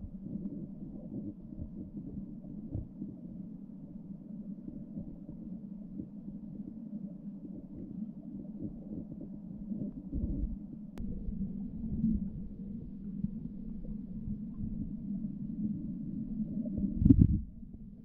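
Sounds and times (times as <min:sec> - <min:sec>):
muffled underwater river rush: 0:00.0 - 0:18.0.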